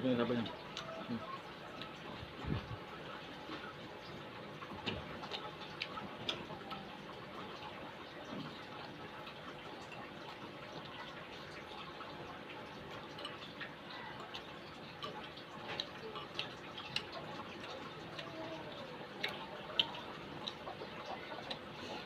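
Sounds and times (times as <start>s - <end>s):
eating clicks and smacks: 0.4s - 22.0s.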